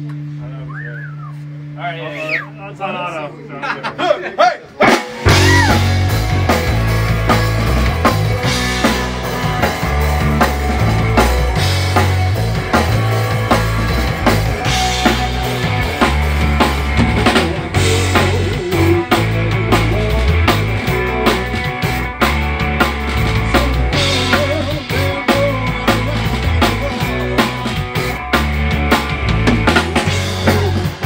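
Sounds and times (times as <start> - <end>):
drum kit beat: 4.8 - 31.0
electric bass line: 4.8 - 31.0
electric guitar: 4.8 - 31.0.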